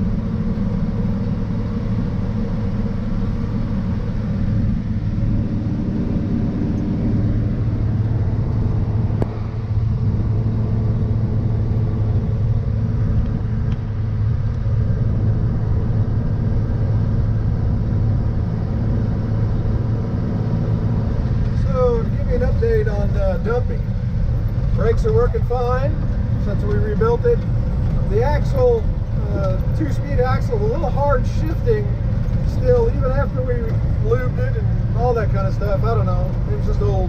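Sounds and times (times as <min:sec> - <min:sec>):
road noise: 0:00.0 - 0:37.0
truck engine running: 0:00.0 - 0:37.0.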